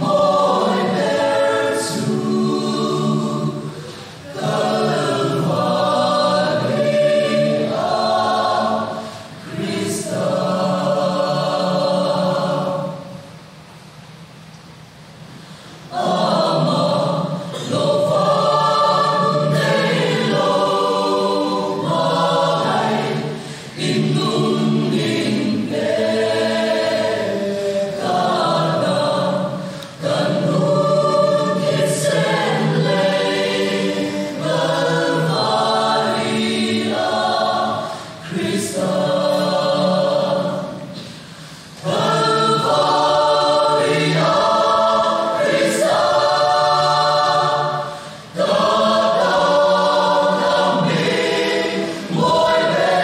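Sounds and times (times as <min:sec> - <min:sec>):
mixed choir singing a hymn: 0:00.0 - 0:13.4, 0:15.8 - 0:53.0.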